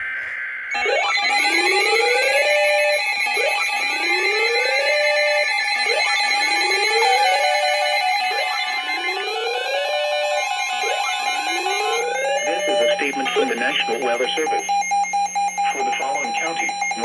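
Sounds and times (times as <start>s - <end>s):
steady high tones: 0.0s - 17.0s
whooping alarm tone: 0.0s - 17.0s.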